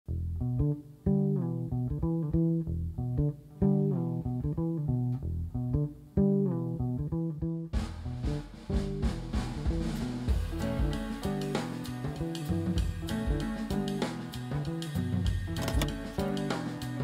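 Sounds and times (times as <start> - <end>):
plucked guitar over bass line: 0.1 - 17.0.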